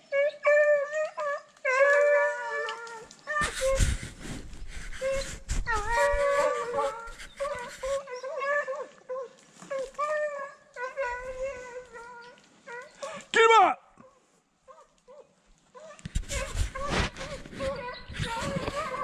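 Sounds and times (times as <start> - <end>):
hounds baying: 0.0 - 13.3, 14.7 - 19.0.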